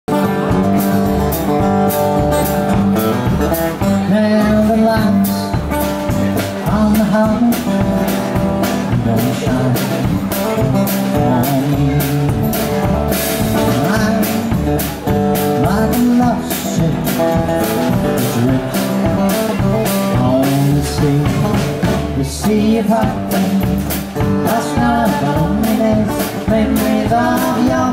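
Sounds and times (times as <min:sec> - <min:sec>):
bass: 0:00.0 - 0:27.9
guitar: 0:00.0 - 0:27.9
steady drum beat: 0:00.1 - 0:27.9.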